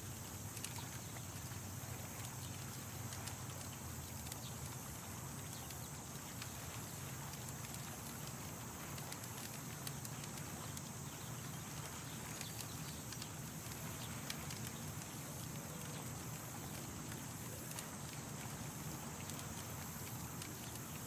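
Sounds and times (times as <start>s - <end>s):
campfire crackling: 0.0s - 21.0s
sharp pops and ticks: 0.0s - 21.0s
steady background hiss: 0.0s - 21.0s.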